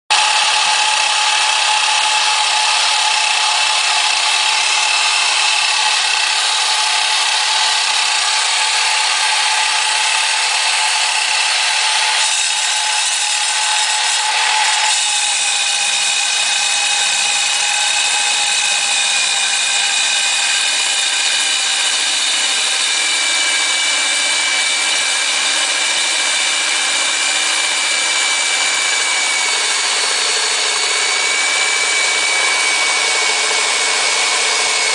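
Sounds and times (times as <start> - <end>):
electric core drill whining: 0.1 - 34.9.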